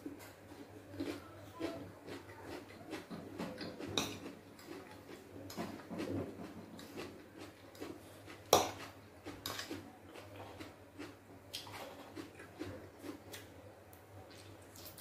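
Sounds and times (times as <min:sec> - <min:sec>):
chewing: 0:00.5 - 0:15.0.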